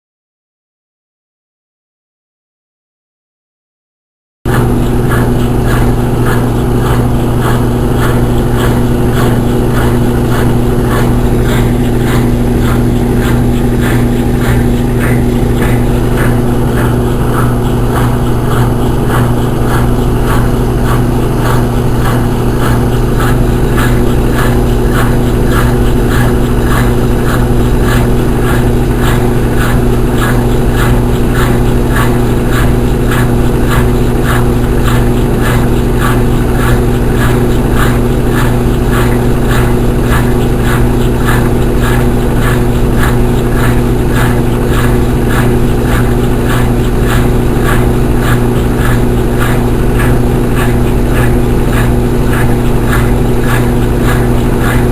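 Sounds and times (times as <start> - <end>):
washing machine spinning: 4.5 - 54.9.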